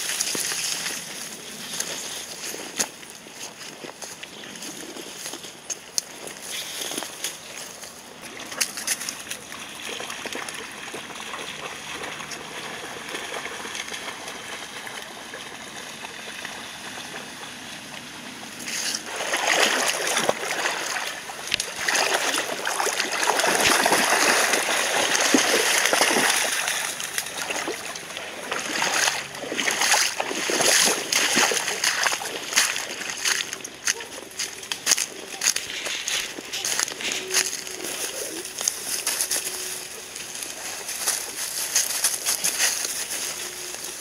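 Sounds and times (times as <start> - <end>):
dogs splashing through water: 0.0 - 44.0.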